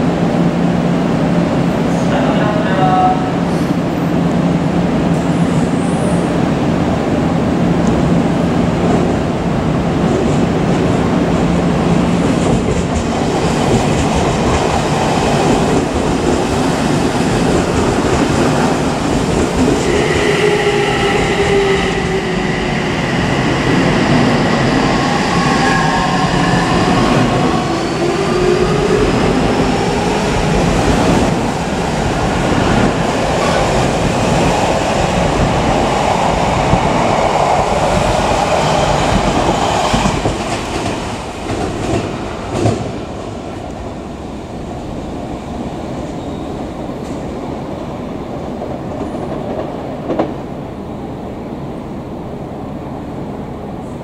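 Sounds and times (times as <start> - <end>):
train wheels rumbling on rails: 0.0 - 52.2.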